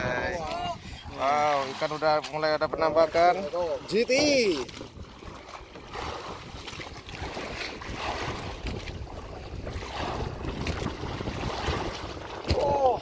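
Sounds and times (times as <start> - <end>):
water splashing against a boat: 0.0 - 13.0
wind buffeting microphone: 0.0 - 13.0.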